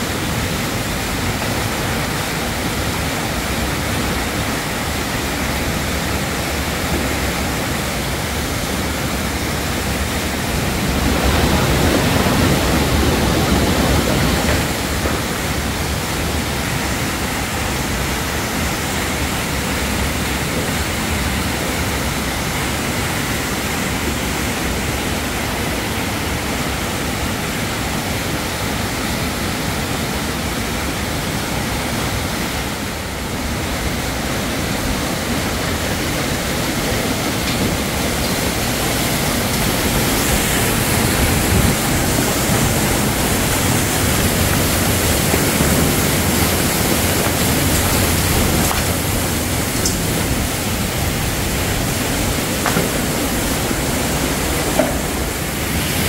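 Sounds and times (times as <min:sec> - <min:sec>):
waterfall splashing over rock: 0:00.0 - 0:56.0.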